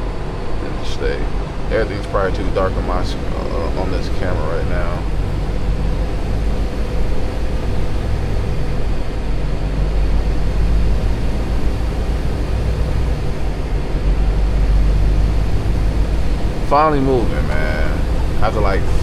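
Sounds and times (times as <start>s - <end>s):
diesel truck engine droning: 0.0s - 19.0s.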